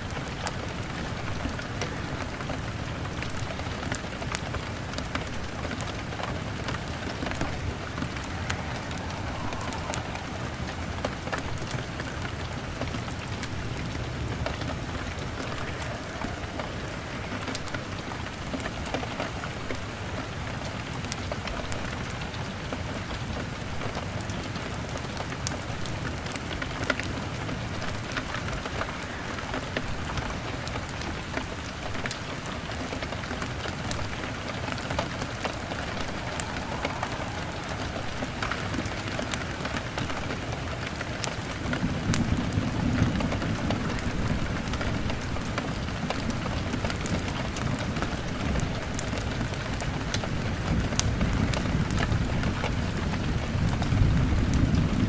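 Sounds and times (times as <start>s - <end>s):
fire crackling: 0.0s - 21.3s, 25.4s - 52.3s
rain on window glass: 0.0s - 55.0s.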